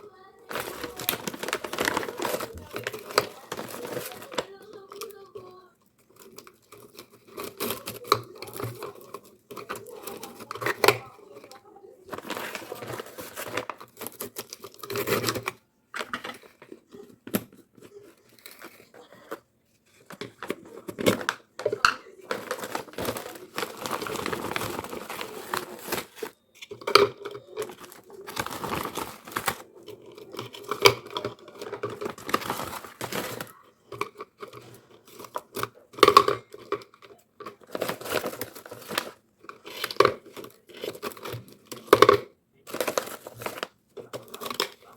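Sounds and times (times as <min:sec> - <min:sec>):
plastic packaging crinkling and tearing: 0:00.0 - 0:44.9.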